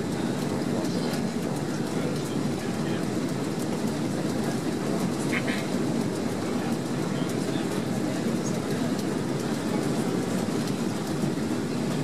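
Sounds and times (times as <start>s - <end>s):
airplane cabin engine noise: 0.0s - 12.0s.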